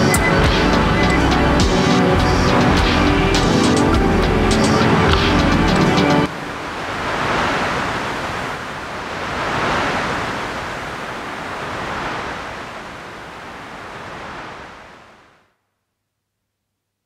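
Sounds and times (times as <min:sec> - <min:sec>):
ocean surf on beach: 0:00.0 - 0:15.5.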